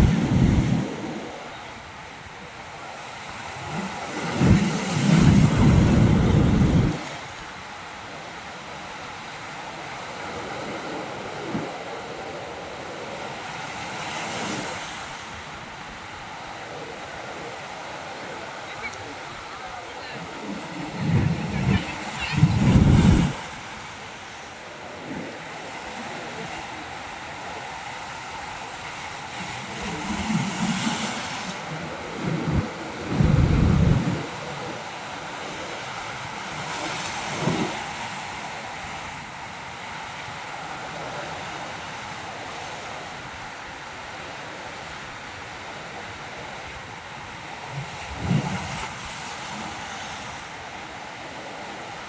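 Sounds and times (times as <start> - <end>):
surf washing over rocks: 0.0 - 52.0.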